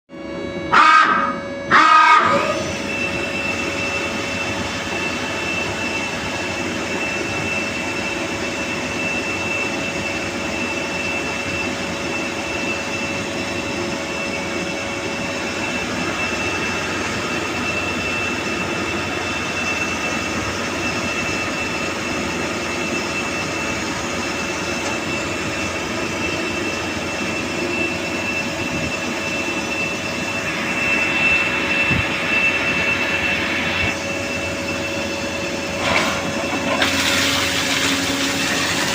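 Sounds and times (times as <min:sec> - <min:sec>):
lathe whining: 0:02.0 - 0:38.9.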